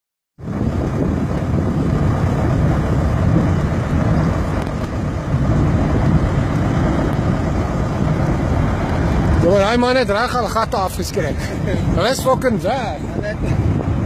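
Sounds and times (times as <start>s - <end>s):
strong wind rumbling: 0.4s - 14.0s.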